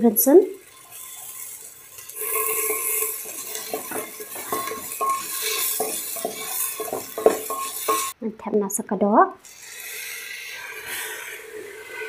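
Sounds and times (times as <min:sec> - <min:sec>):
onions sizzling in oil: 0:00.0 - 0:08.2, 0:09.4 - 0:12.0
spatula scraping pot: 0:00.6 - 0:08.2, 0:09.5 - 0:12.0.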